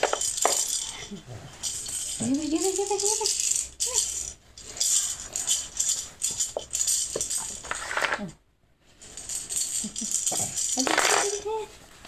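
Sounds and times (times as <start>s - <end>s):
baby rattle shaking: 0.0s - 8.2s, 9.0s - 11.7s.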